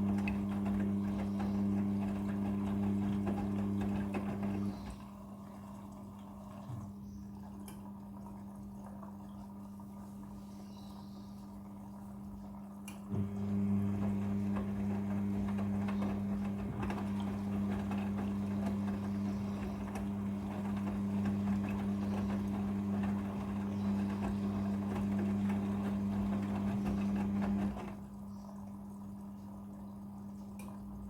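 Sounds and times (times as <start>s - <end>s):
washing machine running: 0.0s - 31.0s.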